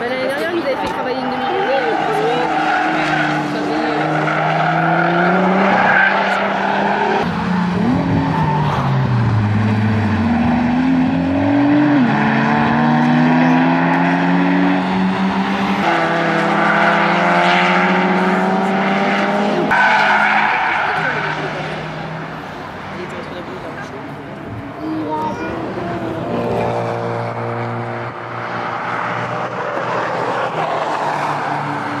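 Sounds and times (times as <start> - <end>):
race car engines accelerating: 0.0 - 32.0.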